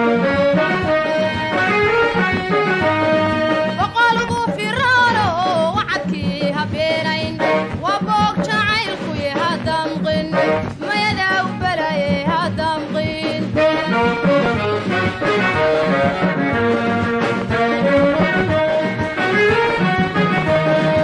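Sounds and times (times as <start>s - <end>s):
ornamented instrumental song melody: 0.0s - 21.0s.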